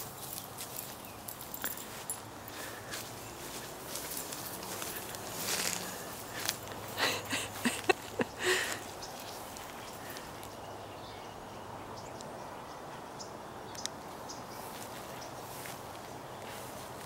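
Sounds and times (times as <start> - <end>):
faint ticks and rustles: 0.0 - 10.6, 13.7 - 17.0.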